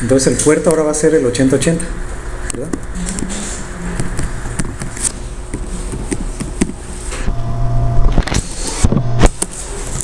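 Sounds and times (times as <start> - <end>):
low buzzing hum: 0.0 - 10.0.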